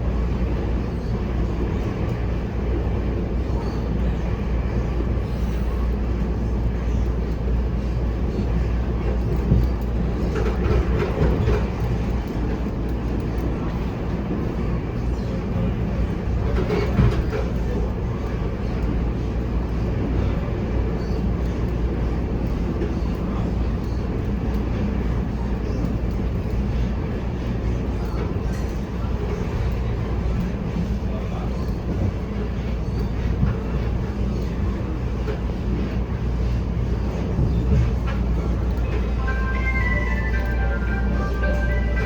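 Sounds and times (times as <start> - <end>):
wheels rumbling on rails: 0.0 - 42.0.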